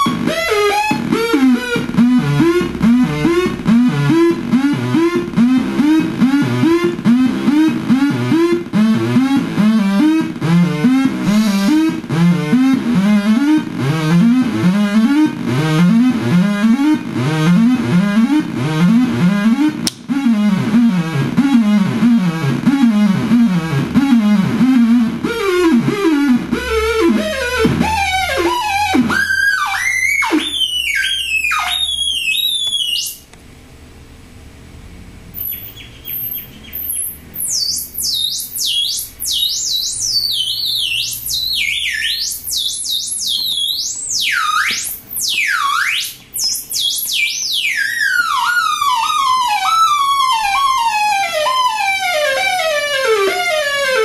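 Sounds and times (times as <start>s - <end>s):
electronic pitch sweeps: 0.0s - 33.3s, 35.3s - 54.0s.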